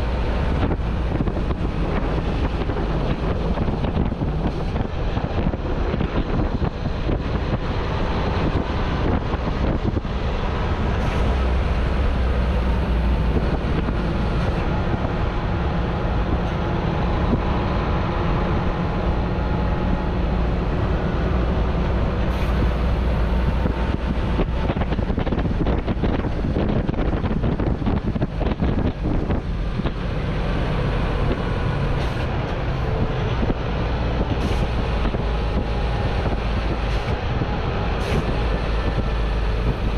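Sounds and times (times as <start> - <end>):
diesel truck engine running: 0.0 - 39.9
tyre and road noise: 0.0 - 39.9
wind buffeting microphone: 0.0 - 39.9.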